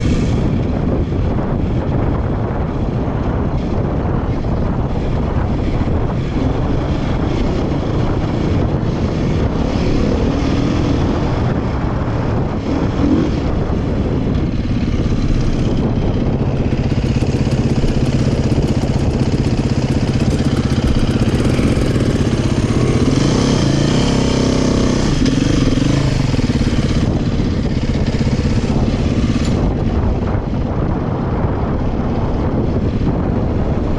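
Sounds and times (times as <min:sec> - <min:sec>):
dirt bike engine running hard: 0:00.0 - 0:33.9
wind noise: 0:00.0 - 0:33.9.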